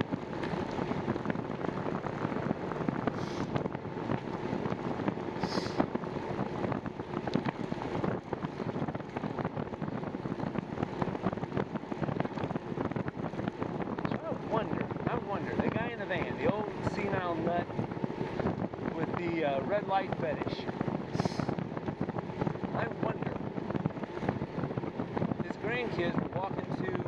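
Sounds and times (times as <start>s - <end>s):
bicycle rattles and clicks: 0.0s - 14.6s, 15.6s - 27.0s
road rumble: 0.0s - 27.0s
wind buffeting microphone: 0.0s - 27.0s.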